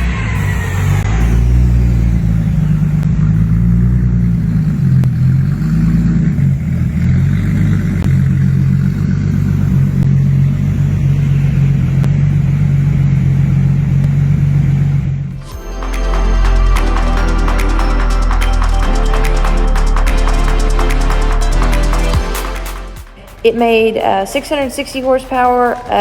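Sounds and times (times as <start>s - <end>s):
car engine running on dyno: 0.0s - 22.3s.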